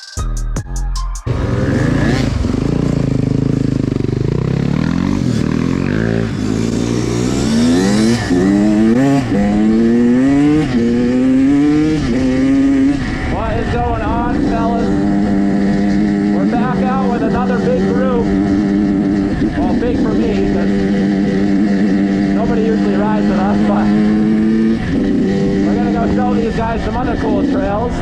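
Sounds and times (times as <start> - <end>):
dirt bike accelerating through gears: 1.3 - 28.0
dirt bike engines running: 1.3 - 28.0.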